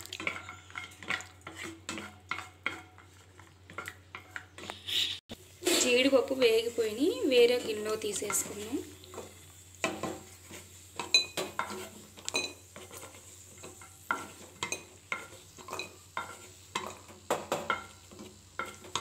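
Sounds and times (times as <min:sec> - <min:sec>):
wooden spatula scraping a wok: 0:00.2 - 0:19.0.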